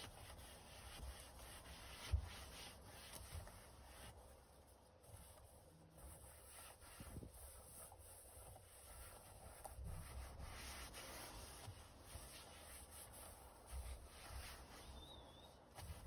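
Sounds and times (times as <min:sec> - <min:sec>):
gloved hands rubbing leather: 0:00.0 - 0:16.0.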